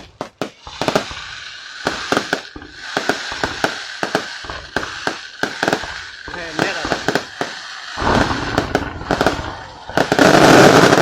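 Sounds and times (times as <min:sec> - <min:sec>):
firework bangs: 0:00.0 - 0:11.0
fireworks crackling: 0:00.0 - 0:11.0.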